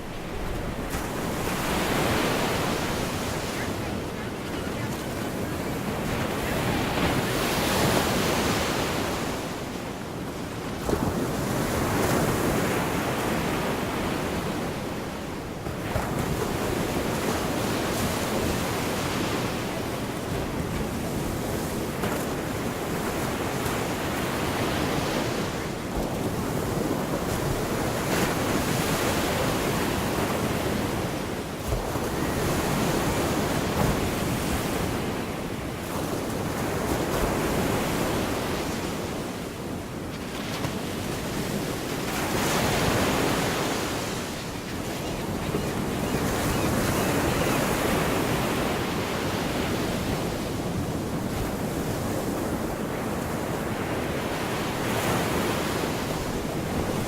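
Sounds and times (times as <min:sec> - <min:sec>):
waves breaking ashore: 0:00.0 - 0:57.0.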